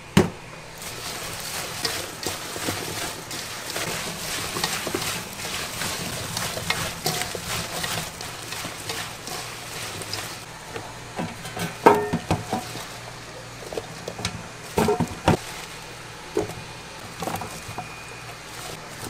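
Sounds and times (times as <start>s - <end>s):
food frying in a pan: 0.6s - 19.0s.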